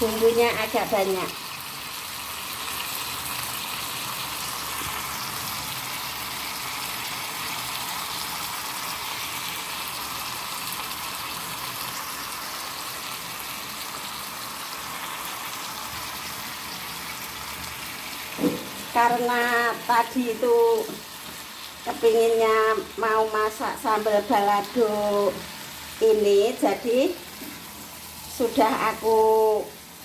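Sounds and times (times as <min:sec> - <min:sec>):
sauce sizzling in a pan: 0:00.0 - 0:30.0.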